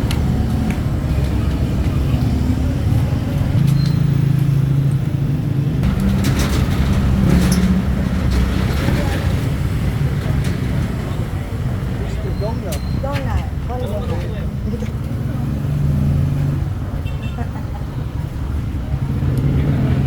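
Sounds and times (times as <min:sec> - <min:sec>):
street traffic: 0:00.0 - 0:20.0
vehicle engine humming: 0:00.0 - 0:20.0.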